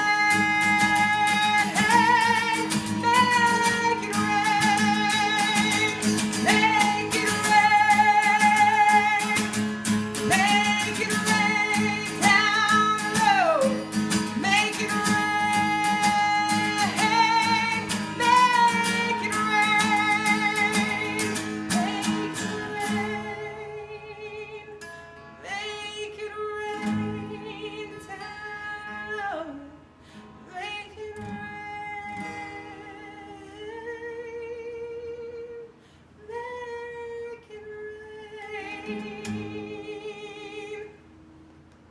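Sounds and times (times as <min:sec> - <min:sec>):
person singing: 0:00.0 - 0:24.8, 0:30.6 - 0:41.0
acoustic guitar strumming: 0:00.0 - 0:41.5.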